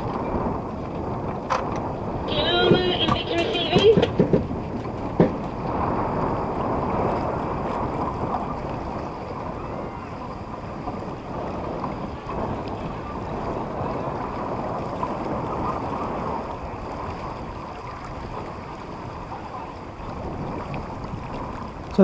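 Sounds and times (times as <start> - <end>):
water rushing past yacht: 0.0 - 22.0
wind rushing over microphone: 0.0 - 22.0.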